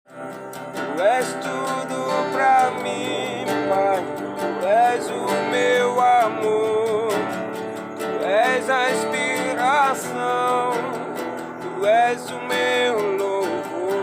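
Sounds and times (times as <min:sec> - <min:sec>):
acoustic guitar strumming: 0:00.1 - 0:14.0
sliding melody line: 0:00.1 - 0:14.0.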